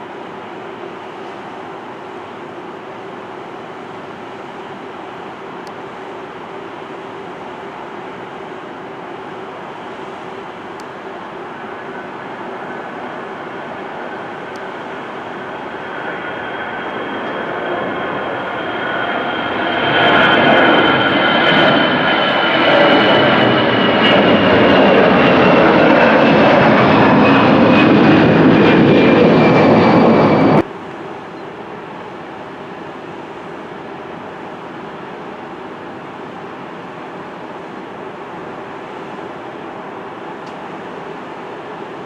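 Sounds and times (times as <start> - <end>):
jet airliner engines passing: 0.0 - 42.0
steady background noise: 0.0 - 42.0.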